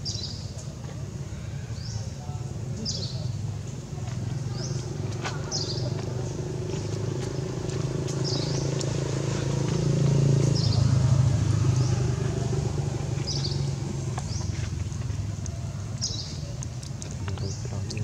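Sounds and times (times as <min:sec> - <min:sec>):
vehicle engine humming: 0:02.0 - 0:18.0.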